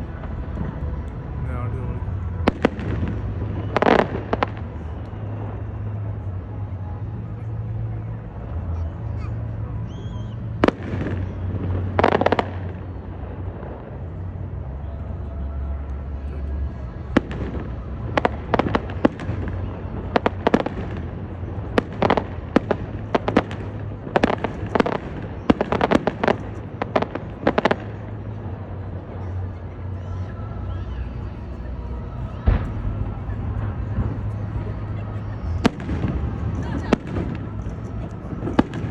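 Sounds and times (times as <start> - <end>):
fireworks bursting: 1.8 - 7.3, 8.3 - 15.2, 16.8 - 29.5, 30.5 - 38.9.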